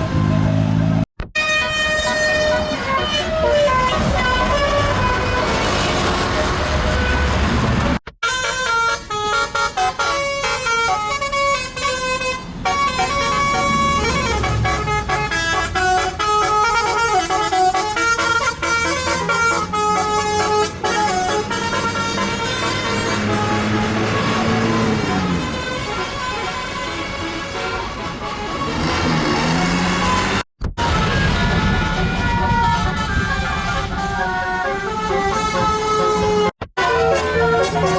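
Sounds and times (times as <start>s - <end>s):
musical bus horn tune: 1.3s - 37.9s
bus engine running: 1.7s - 37.9s.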